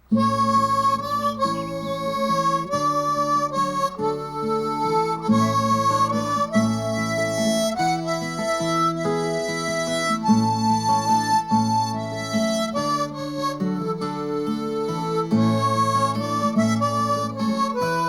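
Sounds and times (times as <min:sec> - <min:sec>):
harmonica melody: 0:00.0 - 0:18.0
strummed acoustic guitar: 0:00.0 - 0:18.0.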